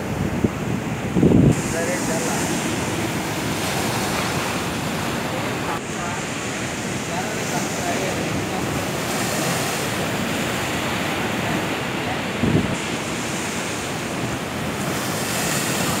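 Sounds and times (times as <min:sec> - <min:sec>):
waves crashing on rocks: 0:00.0 - 0:16.0.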